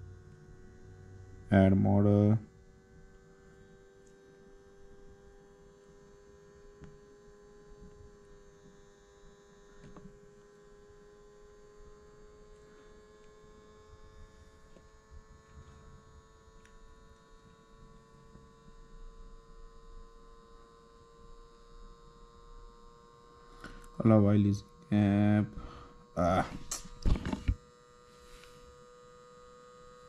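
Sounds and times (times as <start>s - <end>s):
faint electrical hum: 0.0s - 30.0s.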